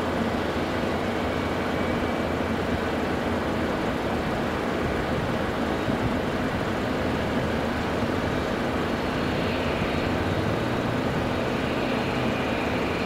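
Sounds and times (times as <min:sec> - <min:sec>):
faint high whine: 0:00.0 - 0:13.0
jet engines running: 0:00.0 - 0:13.0.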